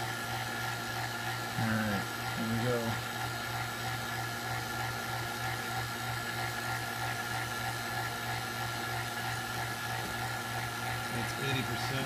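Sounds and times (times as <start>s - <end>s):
vacuum pump running: 0.0s - 12.0s.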